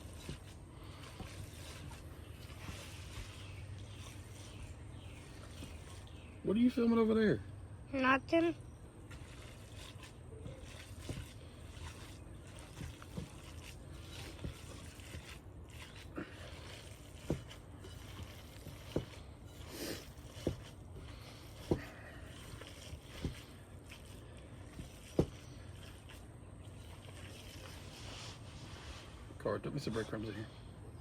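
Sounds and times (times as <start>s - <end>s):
hands kneading wet meat: 0.0s - 6.9s, 9.1s - 29.4s
steady low hum: 0.0s - 31.0s.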